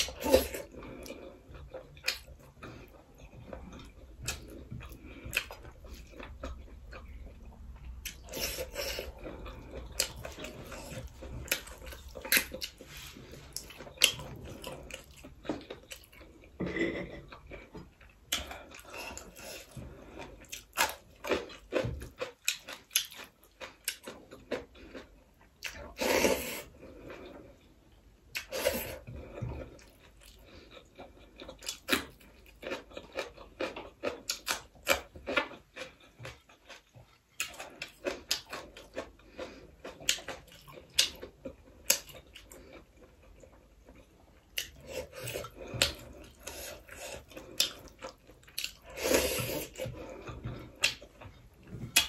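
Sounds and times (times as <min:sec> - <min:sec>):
person chewing and lip-smacking: 0:00.0 - 0:12.9, 0:13.5 - 0:16.5, 0:17.2 - 0:26.0, 0:28.3 - 0:52.0.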